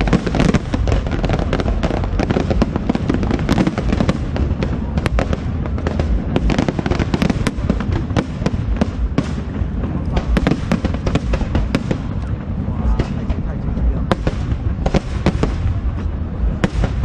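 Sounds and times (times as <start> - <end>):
fireworks bursting with sharp cracks: 0.0 - 17.0
steady low rumble: 0.0 - 17.0.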